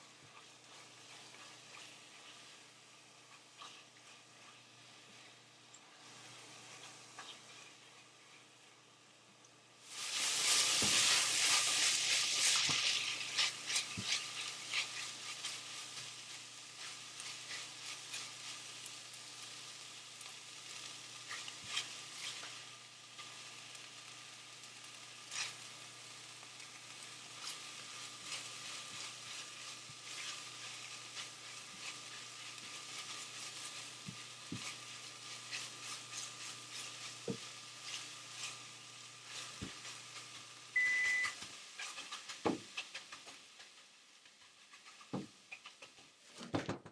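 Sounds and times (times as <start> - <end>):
food sizzling in a frying pan: 0.0 - 46.4.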